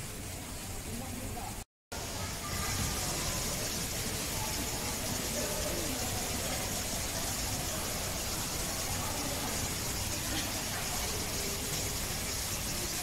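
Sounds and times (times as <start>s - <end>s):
faint indistinct voices: 0.0s - 13.0s
low hum and hiss: 0.0s - 13.0s.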